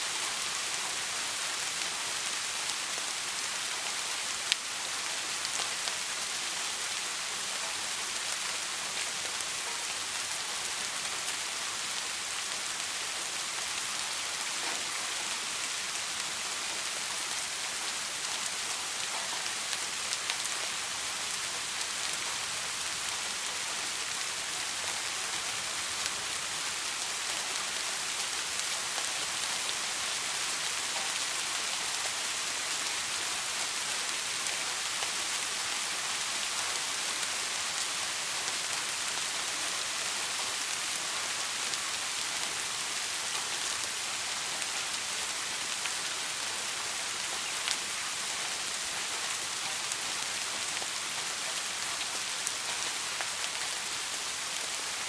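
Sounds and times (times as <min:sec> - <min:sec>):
soft rain hissing: 0:00.0 - 0:55.0.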